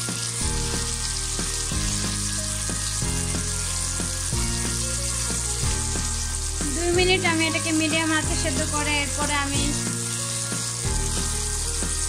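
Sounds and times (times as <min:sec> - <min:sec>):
steaks sizzling in a frying pan: 0:00.0 - 0:12.0.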